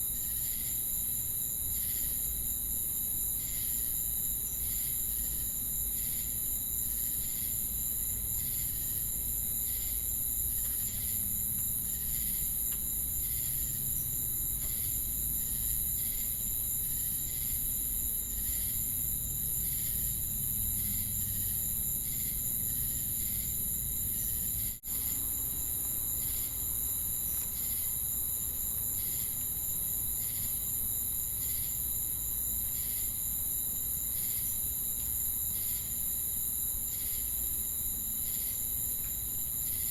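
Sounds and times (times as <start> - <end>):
crickets trilling: 0.0 - 39.9
insect chirping: 0.0 - 39.9.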